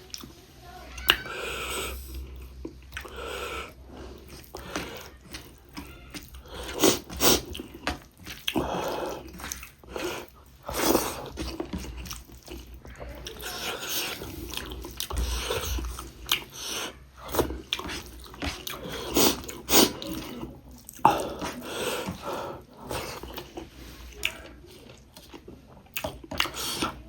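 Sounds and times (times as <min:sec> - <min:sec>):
chewing and mouth smacks: 0:02.0 - 0:27.0.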